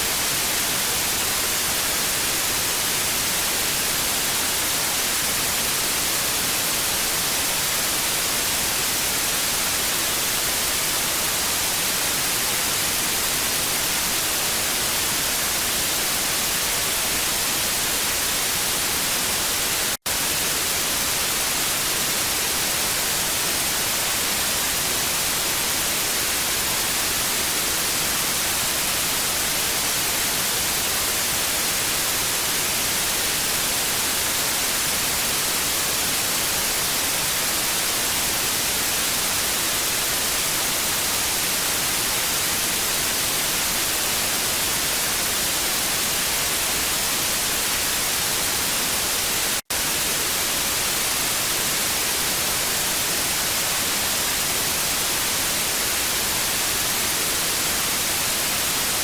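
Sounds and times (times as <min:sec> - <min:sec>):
tv static hiss: 0:00.0 - 0:59.0.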